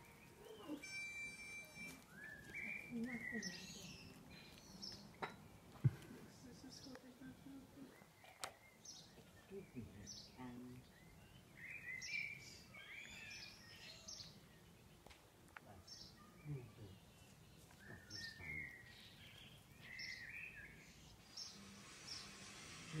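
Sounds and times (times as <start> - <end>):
faint songbird chirps: 0.0 - 23.0.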